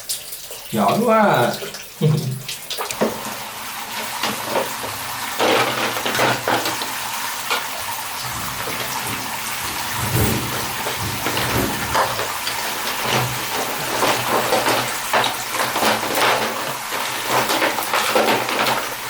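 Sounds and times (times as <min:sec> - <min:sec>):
tap water running into bath: 0:00.0 - 0:19.0
water splashes: 0:00.0 - 0:19.0.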